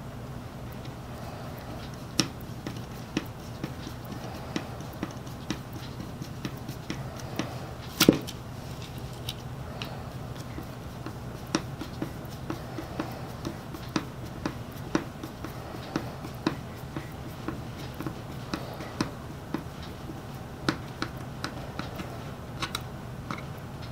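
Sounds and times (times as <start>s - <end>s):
steady low hum: 0.0s - 23.9s
small tools clicking and tapping: 1.6s - 23.9s.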